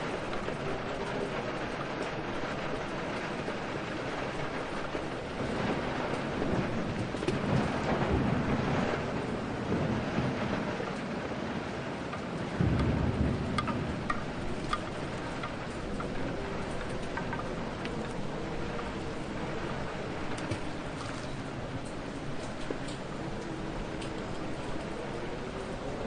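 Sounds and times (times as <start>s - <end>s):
heavy rain: 0.0s - 26.0s
thunder rumbling: 0.0s - 26.0s.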